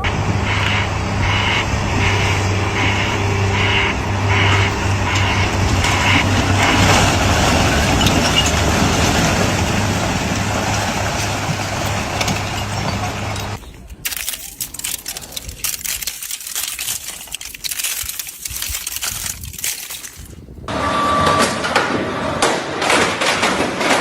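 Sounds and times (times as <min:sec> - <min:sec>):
heavy engine rumbling: 0:00.0 - 0:24.0.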